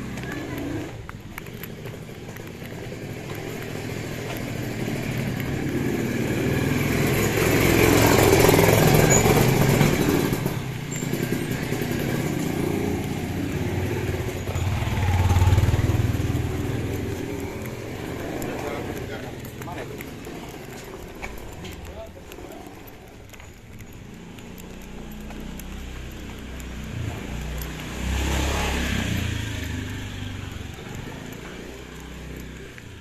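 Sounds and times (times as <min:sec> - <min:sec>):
motorcycle engine passing: 0:00.0 - 0:33.0.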